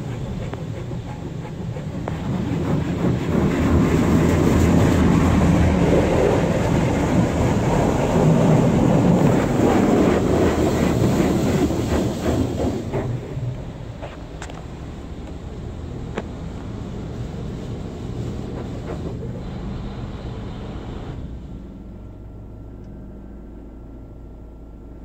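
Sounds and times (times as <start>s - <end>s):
car wash water spraying on car: 0.0s - 22.0s.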